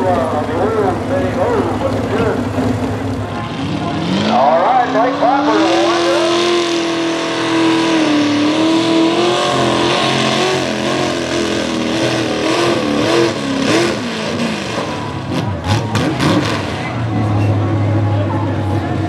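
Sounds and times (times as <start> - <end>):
tractor engine at high revs: 0.0 - 19.0.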